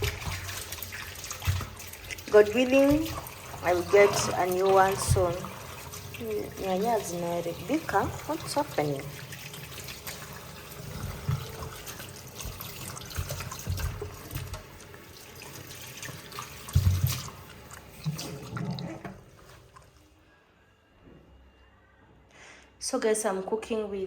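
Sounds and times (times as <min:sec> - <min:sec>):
tap water running into sink: 0:00.0 - 0:19.8
clicks and knocks of washing: 0:00.0 - 0:19.9.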